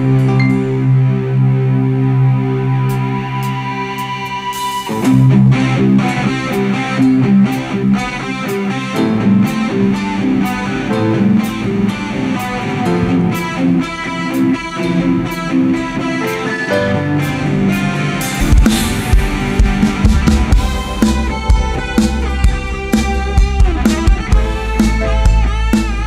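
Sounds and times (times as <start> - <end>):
keyboard chord: 0.0 - 26.0
rock band playing: 0.0 - 26.0.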